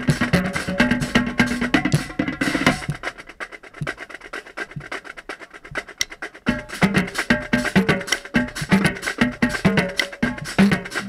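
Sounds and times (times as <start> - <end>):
marching drumline playing: 0.0 - 11.0
tenor drums struck with sticks: 0.0 - 11.0.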